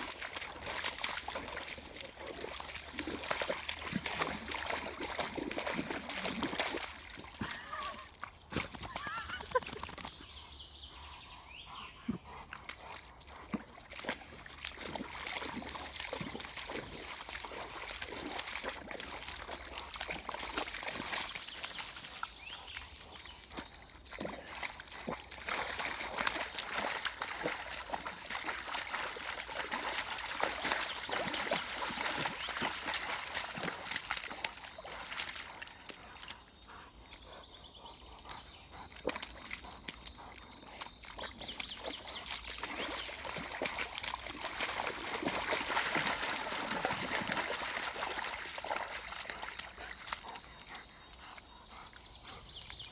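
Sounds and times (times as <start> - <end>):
dog splashing in mud puddle: 0.0 - 10.4, 12.0 - 37.5, 38.1 - 52.9.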